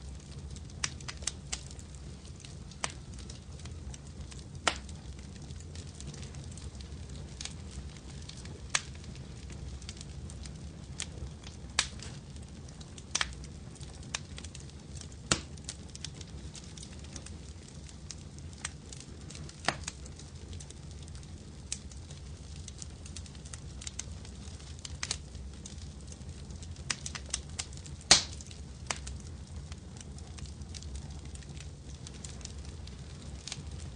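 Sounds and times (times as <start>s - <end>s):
rumble of flames: 0.0s - 33.9s
wood fire crackling: 0.0s - 33.9s.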